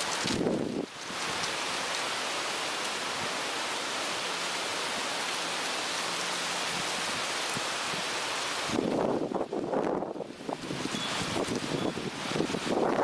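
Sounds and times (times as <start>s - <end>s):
wind rustling leaves: 0.0s - 13.0s.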